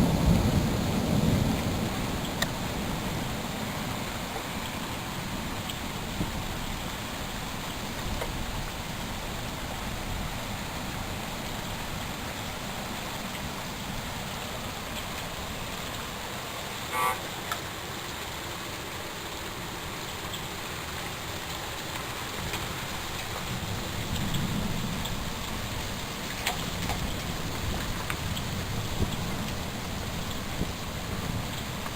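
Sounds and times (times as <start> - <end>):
rain hissing: 0.0 - 31.9.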